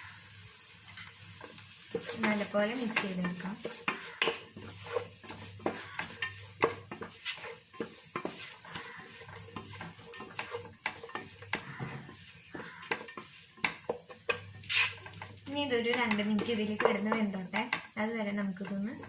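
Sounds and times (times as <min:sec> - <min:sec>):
vegetables sizzling in a pan: 0:00.0 - 0:19.0
spatula scraping a pan: 0:00.1 - 0:19.0.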